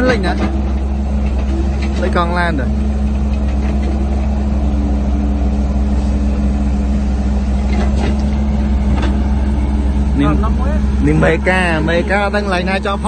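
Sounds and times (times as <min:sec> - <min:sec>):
heavy diesel engines humming: 0:00.0 - 0:13.0.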